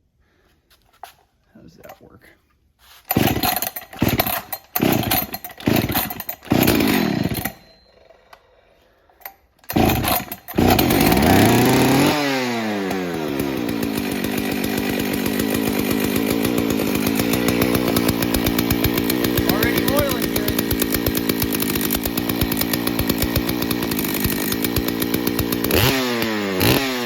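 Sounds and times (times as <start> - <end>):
chainsaw engine running: 3.1 - 8.1, 8.8 - 27.0
starter cord pulls: 3.1 - 8.5, 9.1 - 12.1, 12.9 - 26.8.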